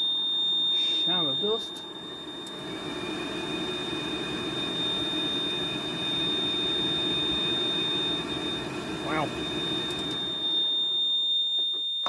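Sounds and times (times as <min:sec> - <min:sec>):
air conditioning blower fan: 0:00.0 - 0:11.4.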